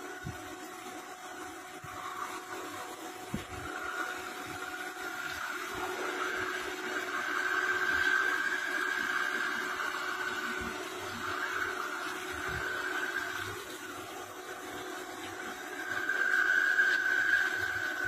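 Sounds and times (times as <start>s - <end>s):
lathe machine hum and whine: 0.0s - 18.0s
coolant spraying hiss: 1.7s - 18.0s.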